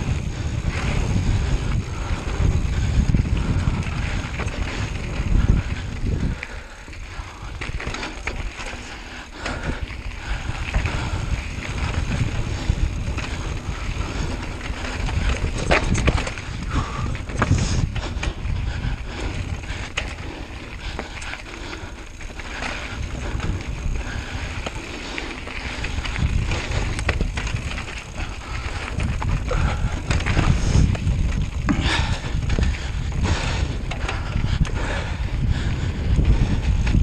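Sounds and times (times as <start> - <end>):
bicycle rattling and clattering: 0.0 - 37.0
wind buffeting microphone: 0.0 - 37.0.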